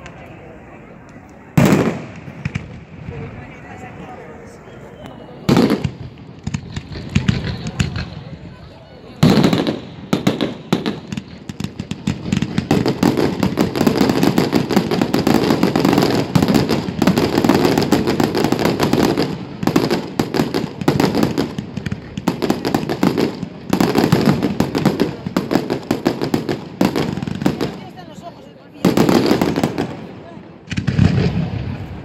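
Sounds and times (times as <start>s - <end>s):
fireworks bangs and crackling: 0.0s - 4.3s, 5.0s - 32.0s.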